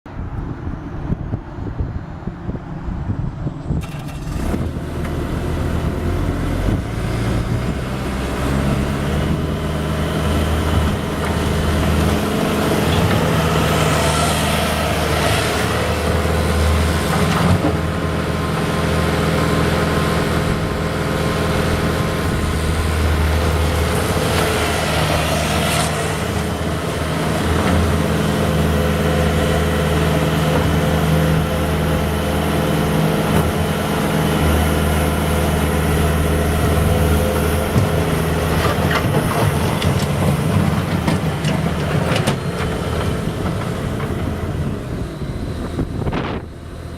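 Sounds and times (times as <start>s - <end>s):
diesel engine running: 2.5s - 46.9s.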